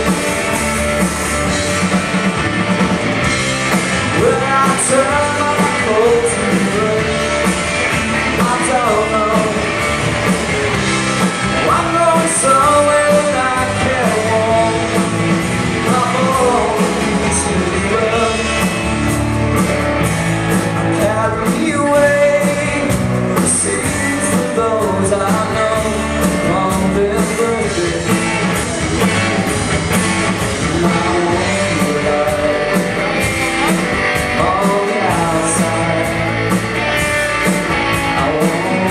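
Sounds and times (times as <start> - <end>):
live rock band playing: 0.0 - 38.9
person singing: 4.0 - 10.0, 11.5 - 19.2, 20.5 - 29.7, 30.4 - 38.9.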